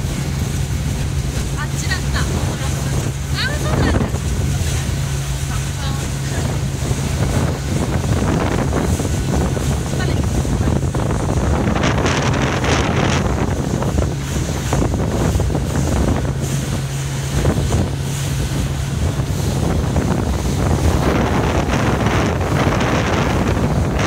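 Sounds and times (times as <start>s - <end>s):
low engine hum: 0.0s - 24.0s
water rushing past hull: 0.0s - 24.0s
wind buffeting microphone: 0.0s - 24.0s.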